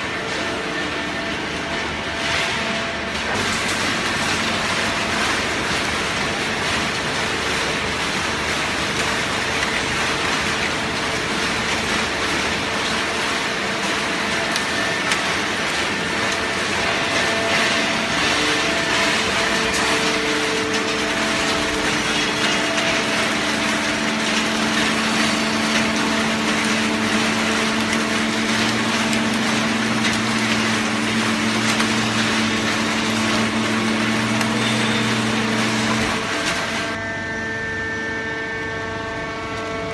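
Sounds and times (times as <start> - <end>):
machinery running: 0.0 - 39.9
motor hum: 0.0 - 39.9.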